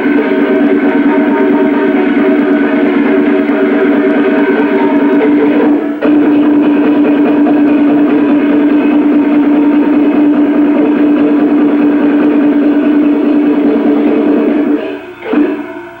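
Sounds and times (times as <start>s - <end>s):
clashing cymbals and gongs: 0.0s - 16.0s
steady held note: 0.0s - 16.0s.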